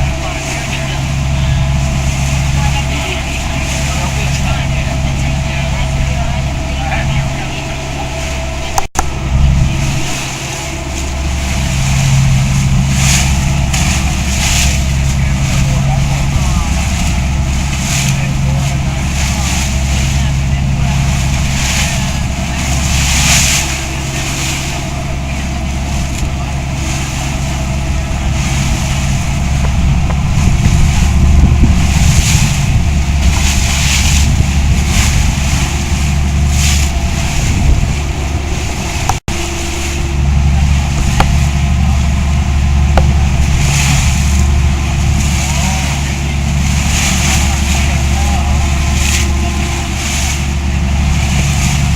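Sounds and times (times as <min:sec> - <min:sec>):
boat engine humming: 0:00.0 - 0:51.9
water splashing past hull: 0:00.0 - 0:51.9.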